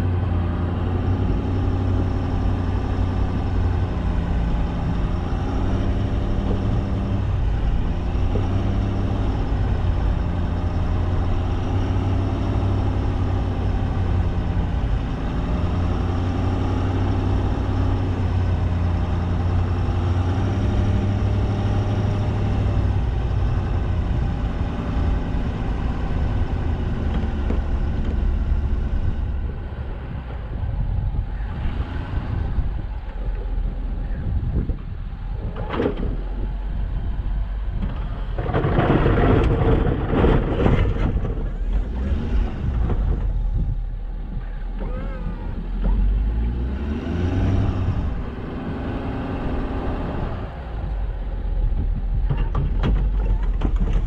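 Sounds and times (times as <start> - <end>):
truck engine humming: 0.0 - 40.3, 41.1 - 54.0.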